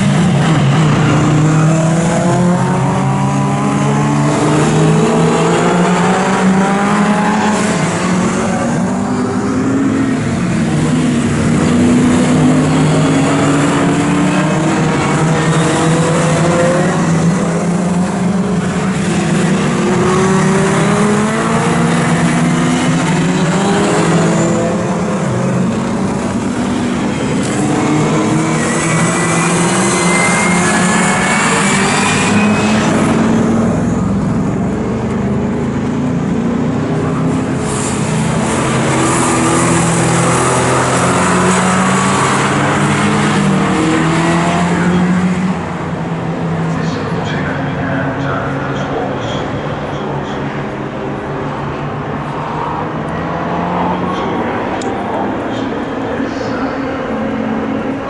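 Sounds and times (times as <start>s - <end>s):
racing car engines at full throttle: 0.0s - 58.0s.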